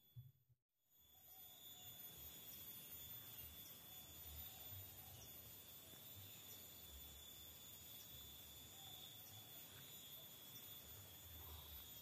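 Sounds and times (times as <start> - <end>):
high insect trill: 0.9 - 12.0.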